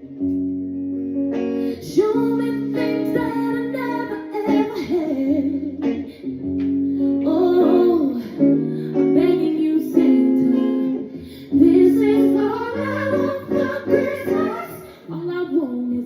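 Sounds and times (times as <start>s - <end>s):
guitar accompaniment: 0.0s - 16.0s
woman singing slow song: 1.6s - 6.3s, 7.0s - 16.0s.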